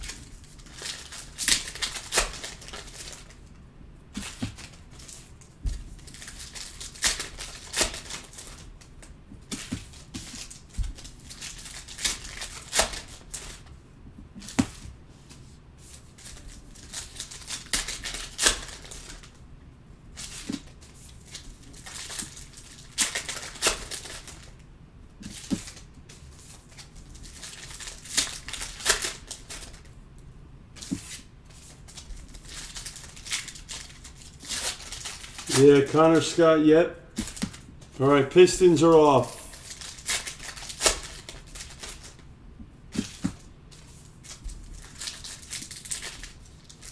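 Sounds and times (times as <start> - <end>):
plastic wrappers crinkling: 0.0 - 3.4, 4.2 - 8.8, 9.6 - 13.7, 16.2 - 19.3, 21.3 - 24.6, 25.2 - 29.9, 30.8 - 42.2, 42.9 - 46.9.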